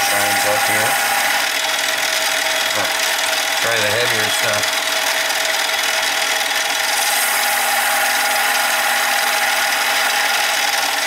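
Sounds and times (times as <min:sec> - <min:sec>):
lathe whining: 0:00.0 - 0:11.0.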